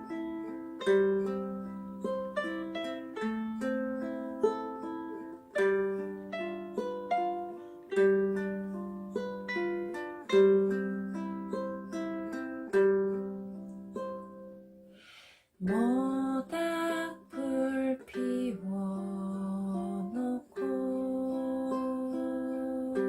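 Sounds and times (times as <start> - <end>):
ukulele plucked chords: 0.0 - 15.0, 15.6 - 23.0.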